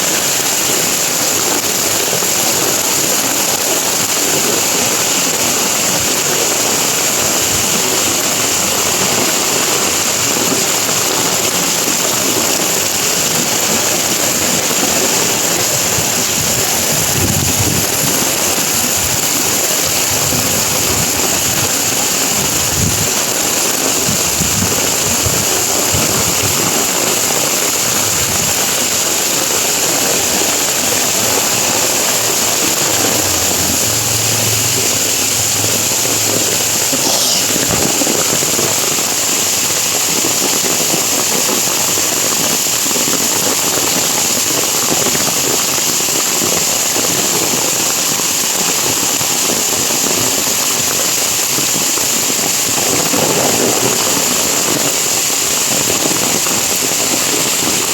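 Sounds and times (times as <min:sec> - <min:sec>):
heavy rain on leaves: 0:00.0 - 0:57.9.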